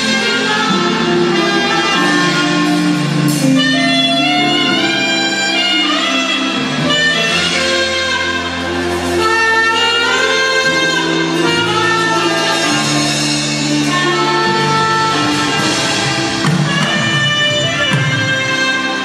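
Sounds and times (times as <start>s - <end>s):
brass and saxophone music: 0.0s - 19.0s.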